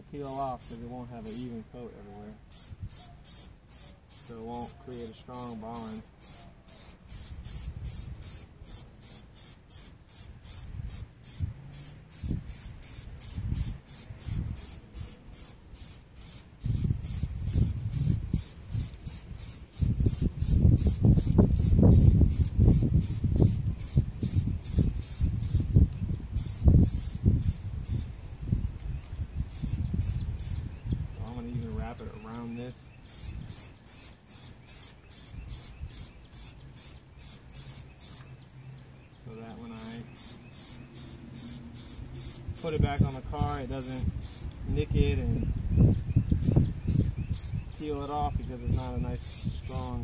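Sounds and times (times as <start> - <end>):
aerosol spray hissing: 0.2 - 1.6, 2.4 - 28.1, 29.5 - 38.3, 39.7 - 44.6, 45.9 - 50.0.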